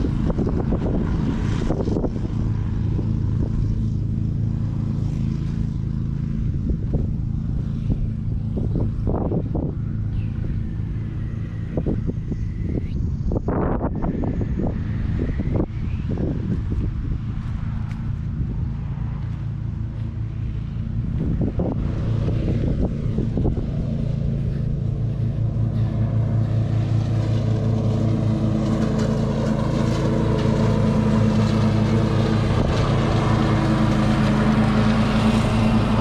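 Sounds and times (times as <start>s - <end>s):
ride-on mower engine running: 0.0s - 36.0s.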